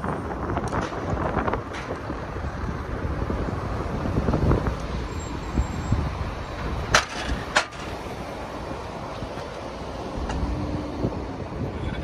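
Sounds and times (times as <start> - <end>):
car road noise: 0.0 - 12.0
passing traffic: 0.0 - 12.0
wind rumbling on microphone: 0.0 - 12.0.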